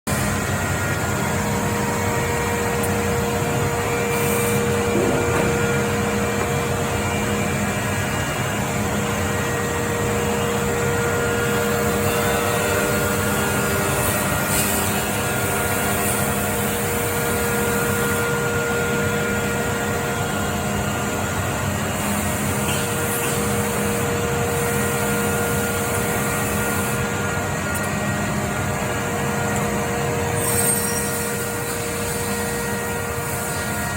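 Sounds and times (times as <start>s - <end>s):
woodworking machine drone: 0.1s - 33.9s.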